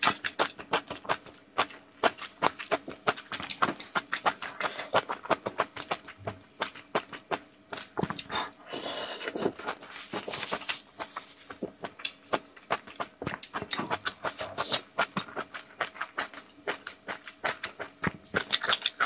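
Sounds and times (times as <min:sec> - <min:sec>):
wet chewing and slurping: 0:00.0 - 0:19.0.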